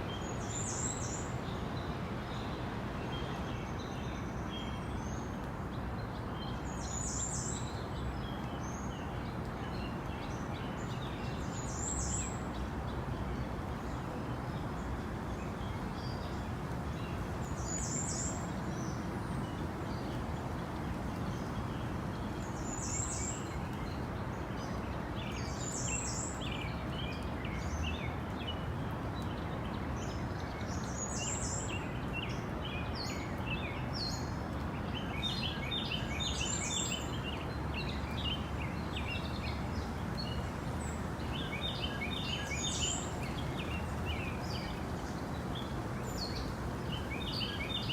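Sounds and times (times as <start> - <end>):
background hiss: 0.0 - 47.9.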